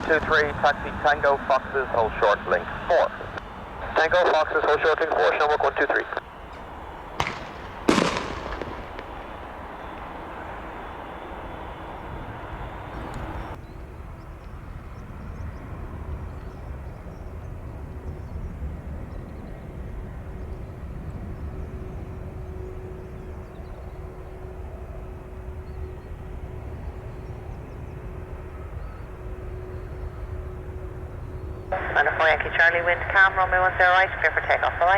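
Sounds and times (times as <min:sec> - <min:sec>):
distant jet engines rumbling: 0:00.0 - 0:34.9
faint steady whine: 0:00.0 - 0:34.9.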